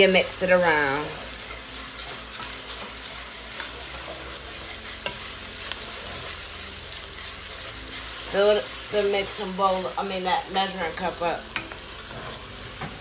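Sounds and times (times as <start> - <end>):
food sizzling in a pot: 0.0 - 13.0
wooden spoon stirring: 0.0 - 13.0.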